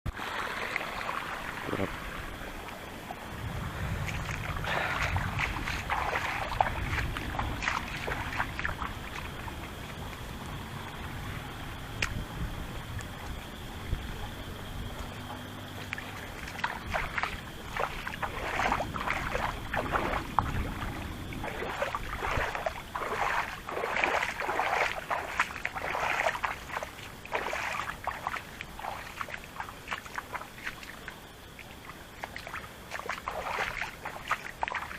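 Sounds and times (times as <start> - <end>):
water splashing and sloshing: 0.1 - 34.9.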